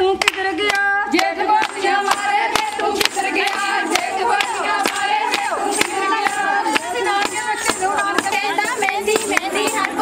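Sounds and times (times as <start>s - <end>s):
women singing folk song: 0.0s - 10.0s
hand clapping: 0.2s - 10.0s.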